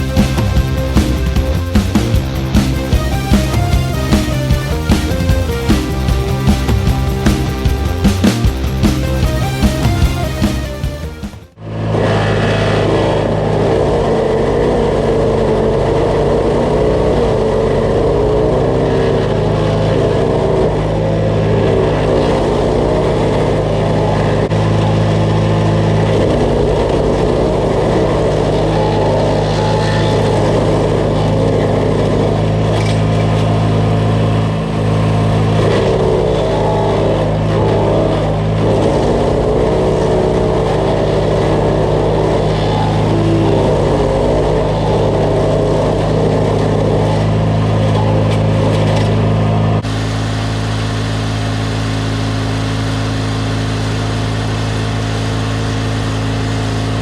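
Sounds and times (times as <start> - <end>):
wood chipper engine chipping brush: 0.0 - 57.0.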